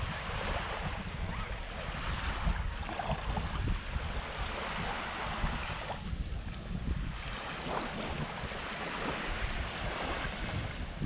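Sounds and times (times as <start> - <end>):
small waves washing onto sand: 0.0 - 11.0
wind buffeting microphone: 0.0 - 11.0.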